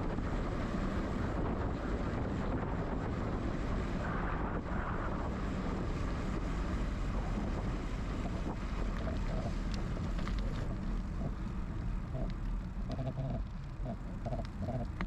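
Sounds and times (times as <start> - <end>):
bicycle rolling with low rumble: 0.0 - 15.0
wind on microphone: 0.0 - 15.0.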